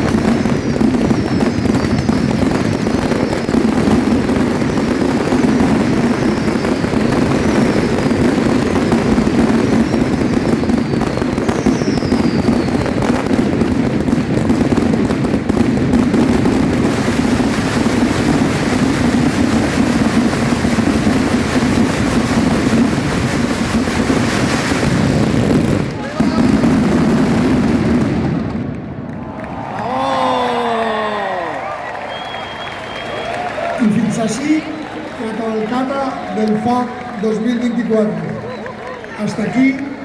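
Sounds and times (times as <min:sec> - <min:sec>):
fireworks falling whistles: 0:00.0 - 0:28.7, 0:31.8 - 0:36.7
fireworks bangs and crackle: 0:00.0 - 0:40.0.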